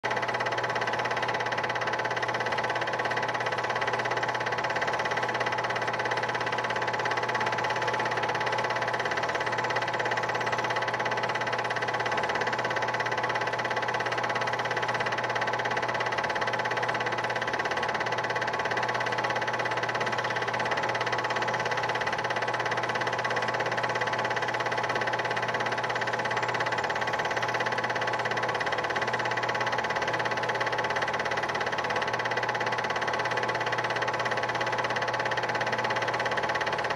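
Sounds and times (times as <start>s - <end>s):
film projector whirring: 0.0s - 36.9s.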